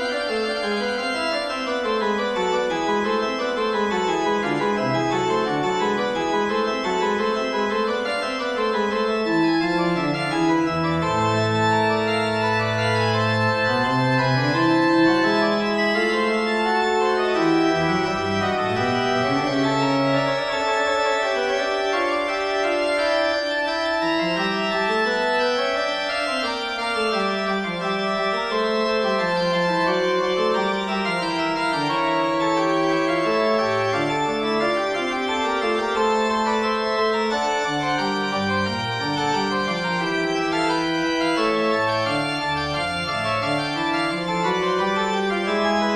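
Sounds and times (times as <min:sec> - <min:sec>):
organ music: 0:00.0 - 0:45.9.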